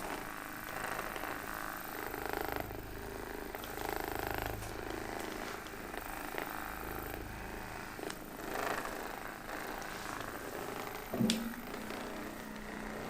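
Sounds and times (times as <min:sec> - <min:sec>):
electric massager buzzing: 0:00.0 - 0:13.0.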